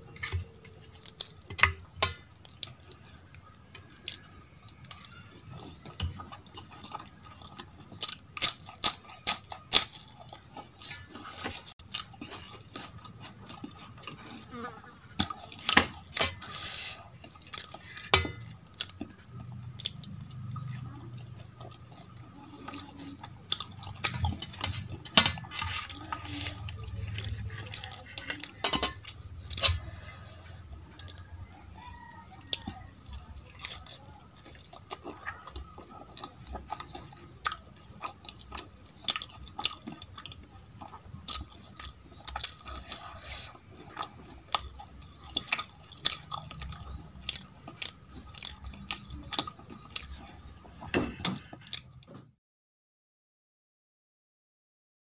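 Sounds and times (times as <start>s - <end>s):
chewing soft food: 0.0s - 52.3s.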